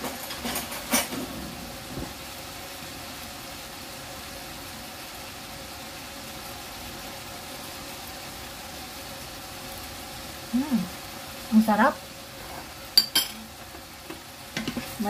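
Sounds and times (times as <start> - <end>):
food simmering in a frying pan: 0.0 - 15.0.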